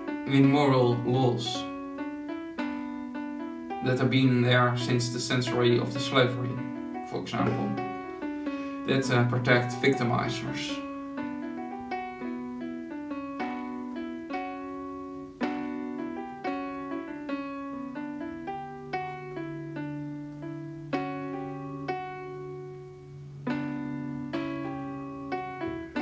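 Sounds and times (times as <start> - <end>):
piano notes and chords: 0.0 - 26.0.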